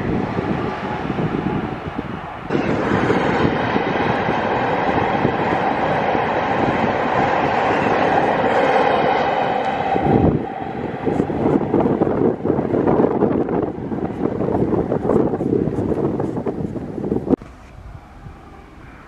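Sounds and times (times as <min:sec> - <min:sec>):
train wheels rushing on rail: 0:00.0 - 0:17.7
wind buffeting microphone: 0:00.0 - 0:19.0.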